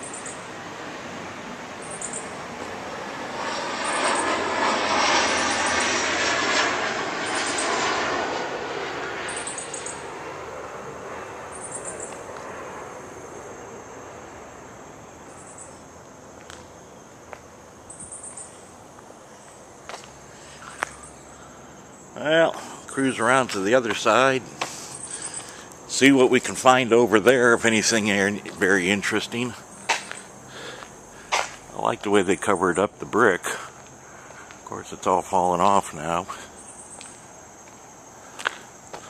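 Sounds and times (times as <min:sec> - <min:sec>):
engine passing by: 0:00.0 - 0:17.3, 0:17.9 - 0:39.0.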